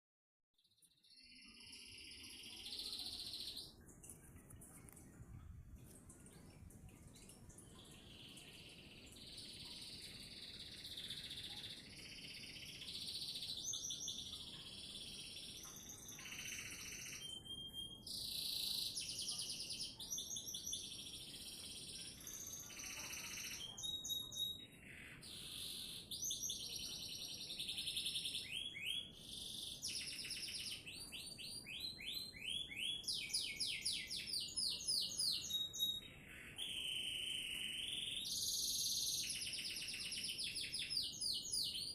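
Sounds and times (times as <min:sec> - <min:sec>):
canary singing: 0:07.9 - 0:41.9.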